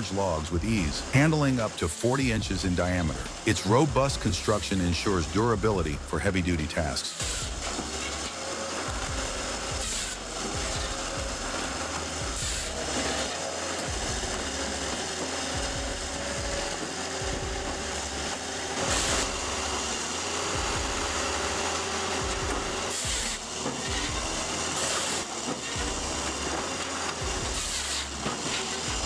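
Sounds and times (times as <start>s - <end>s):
firewood processor running: 0.0s - 29.0s
hydraulic hissing bursts: 0.0s - 29.0s.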